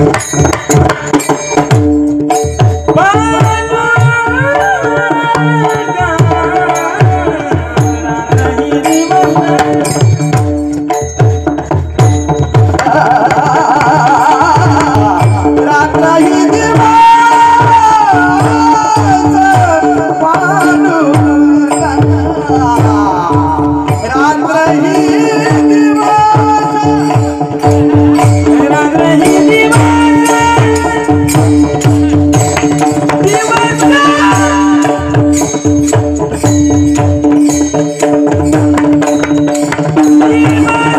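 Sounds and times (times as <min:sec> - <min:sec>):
crisp percussion: 0:00.0 - 0:40.9
hand-drum strokes: 0:00.0 - 0:40.9
person singing: 0:02.9 - 0:10.4, 0:12.7 - 0:37.3, 0:39.6 - 0:40.9.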